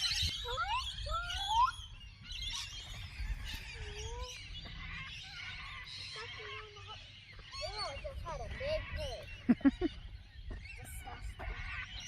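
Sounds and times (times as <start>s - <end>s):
birds whistling and chirping: 0.0s - 12.0s.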